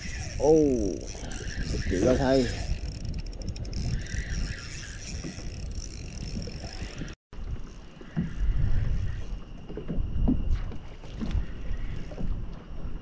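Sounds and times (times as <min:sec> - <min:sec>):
fishing reel gears whirring: 0:00.0 - 0:09.8, 0:11.2 - 0:12.4
water: 0:00.0 - 0:13.0
wind noise: 0:00.0 - 0:13.0.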